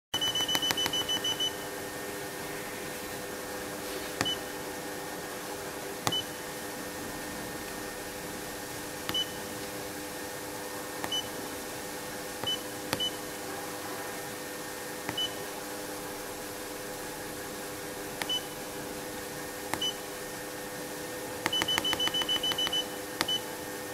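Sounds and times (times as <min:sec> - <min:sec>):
steady low hum: 0:00.2 - 0:23.9.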